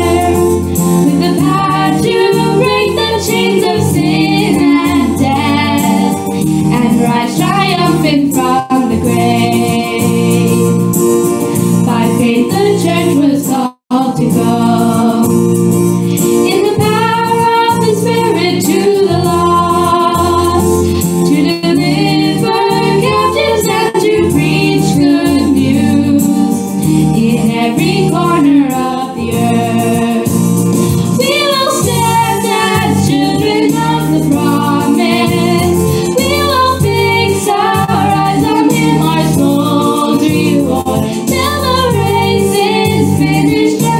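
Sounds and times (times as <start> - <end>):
choir singing devotional song: 0.0 - 11.0, 11.6 - 43.9
instrumental accompaniment: 0.0 - 13.3, 14.2 - 43.9.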